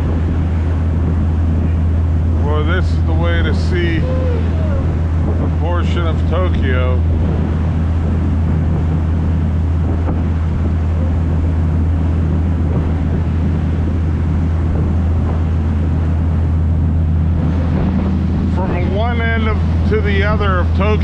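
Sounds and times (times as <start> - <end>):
boat engine droning: 0.0 - 21.0
wind noise on microphone: 0.0 - 21.0.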